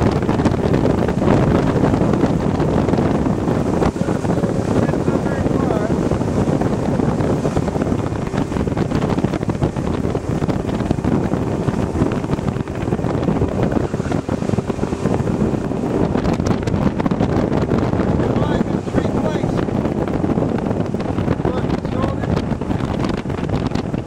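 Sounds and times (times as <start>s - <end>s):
outboard motor running: 0.0s - 24.0s
wind buffeting microphone: 0.0s - 24.0s.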